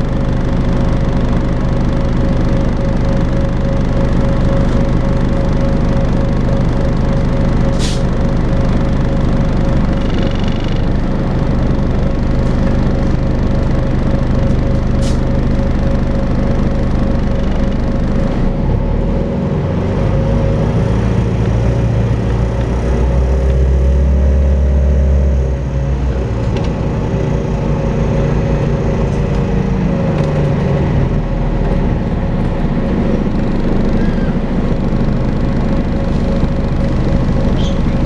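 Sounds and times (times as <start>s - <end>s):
bus engine drone: 0.0s - 38.0s
bus whine: 0.0s - 38.0s.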